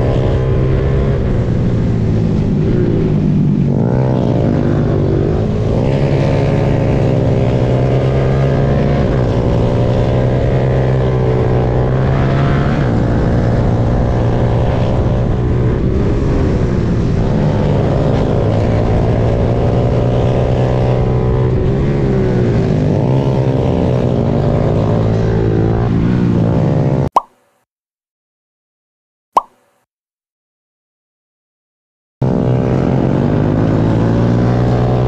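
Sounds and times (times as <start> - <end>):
motorcycle engine revving: 0.0 - 27.1, 32.2 - 35.0.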